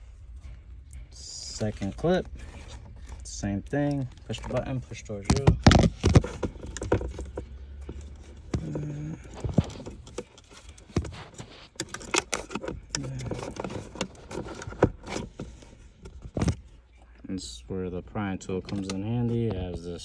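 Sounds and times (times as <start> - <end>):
plastic trim clicks and rattles: 1.5 - 16.7, 18.6 - 19.6.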